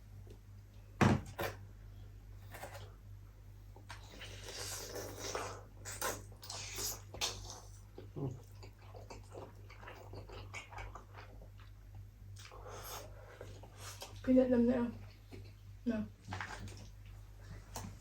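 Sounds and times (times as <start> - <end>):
low electrical hum: 0.0 - 18.0
people chewing food: 2.4 - 3.0, 3.7 - 18.0.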